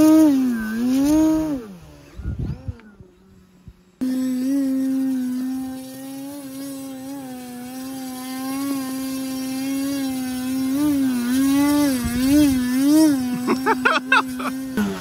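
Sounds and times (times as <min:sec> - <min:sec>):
model airplane motor buzzing: 0:00.0 - 0:15.0.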